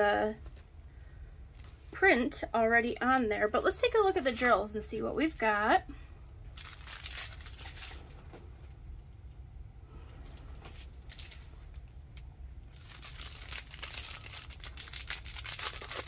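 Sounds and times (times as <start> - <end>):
plastic packaging crinkling: 0.2 - 0.8, 1.5 - 8.8, 10.2 - 16.0.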